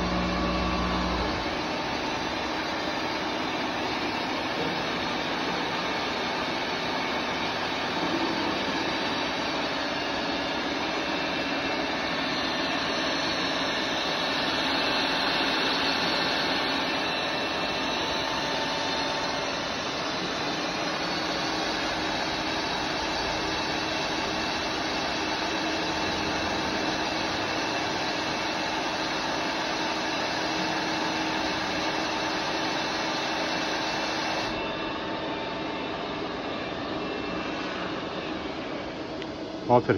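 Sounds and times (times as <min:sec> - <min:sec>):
machining spindle whir: 0:00.0 - 0:39.9.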